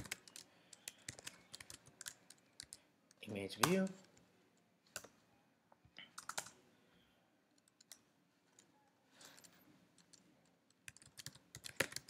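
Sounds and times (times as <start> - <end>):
faint keyboard typing: 0.0 - 5.2, 5.8 - 6.6, 7.5 - 12.0.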